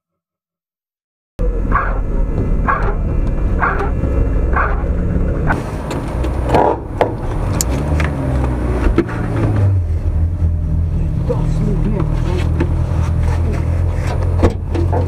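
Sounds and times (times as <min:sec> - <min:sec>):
car engine idling: 0:01.4 - 0:15.0.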